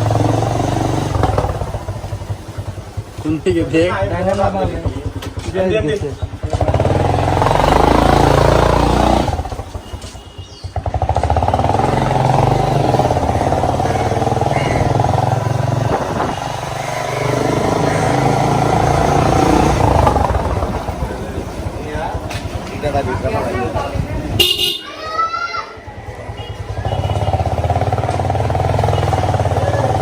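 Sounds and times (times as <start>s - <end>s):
motorcycle engine running: 0.0s - 24.8s, 25.8s - 30.0s.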